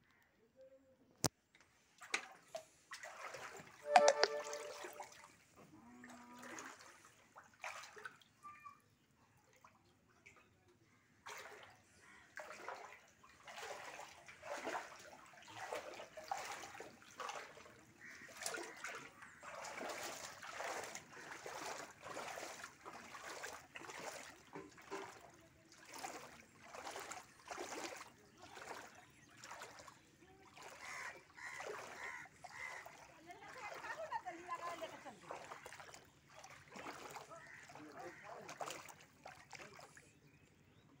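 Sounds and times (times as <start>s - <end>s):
feet wading through water: 1.9s - 8.5s, 9.3s - 40.8s.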